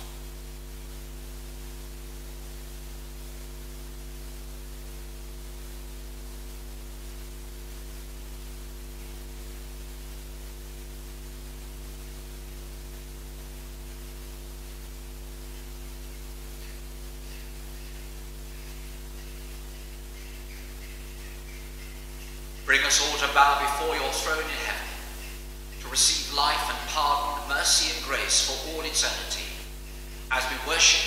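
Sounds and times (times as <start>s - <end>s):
electrical mains hum: 0.0s - 31.0s
steady hiss: 0.0s - 31.0s.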